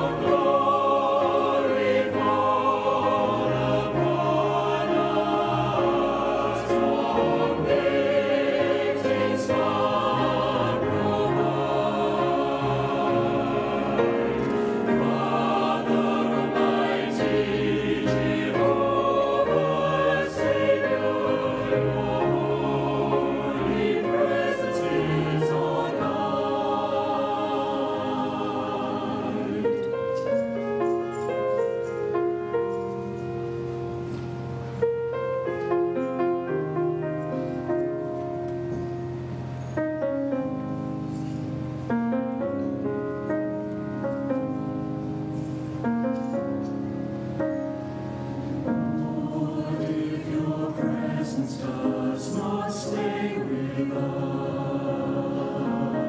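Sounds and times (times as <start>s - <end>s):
choir singing a hymn: 0.0s - 56.0s
piano: 0.0s - 56.0s.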